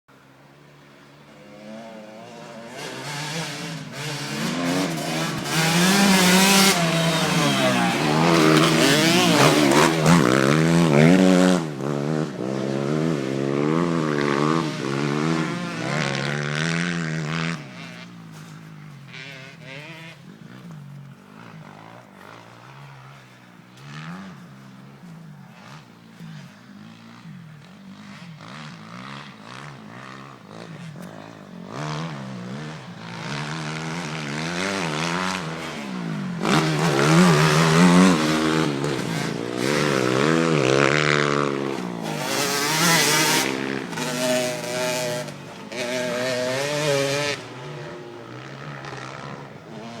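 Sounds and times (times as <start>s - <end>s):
motocross bike engines revving: 0.2s - 50.0s.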